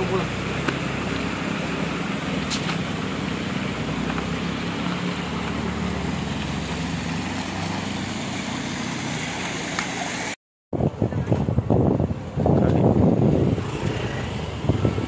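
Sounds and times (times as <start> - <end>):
road noise: 0.0 - 15.0
vehicle engine humming: 0.0 - 15.0.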